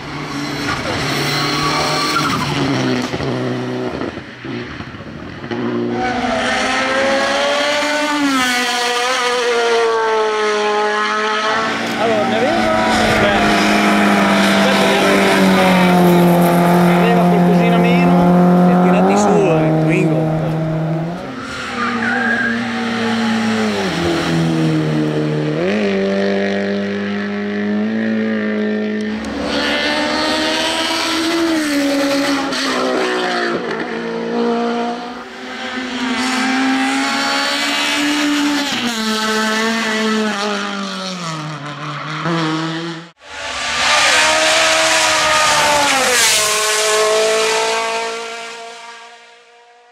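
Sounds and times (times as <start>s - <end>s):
racing car engines revving: 0.0s - 49.9s.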